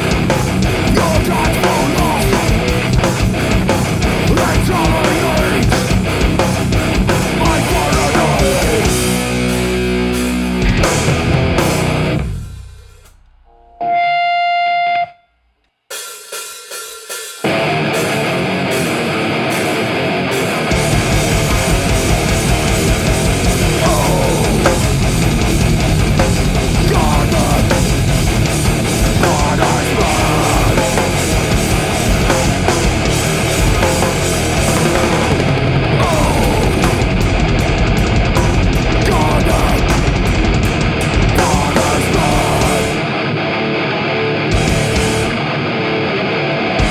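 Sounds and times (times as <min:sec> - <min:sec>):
live heavy rock band: 0:00.0 - 0:13.2, 0:17.2 - 0:46.9
distorted electric guitars: 0:00.0 - 0:15.6, 0:17.4 - 0:46.9.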